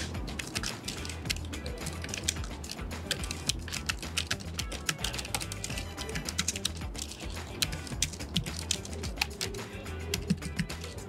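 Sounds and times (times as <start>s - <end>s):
background music: 0.0s - 11.0s
keyboard typing clicks: 0.3s - 10.9s.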